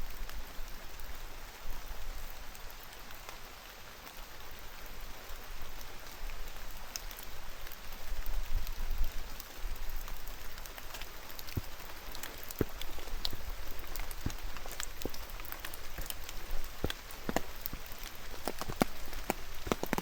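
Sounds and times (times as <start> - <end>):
raindrops ticking close by: 0.0 - 20.0
steady rain patter: 0.0 - 20.0.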